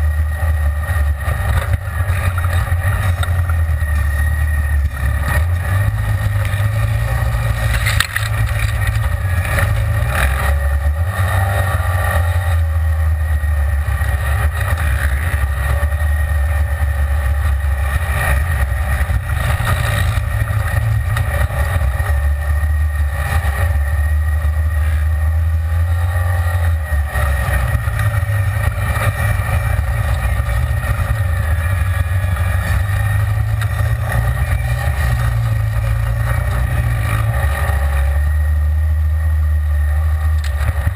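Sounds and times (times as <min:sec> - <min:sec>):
low engine drone: 0:00.0 - 0:40.9.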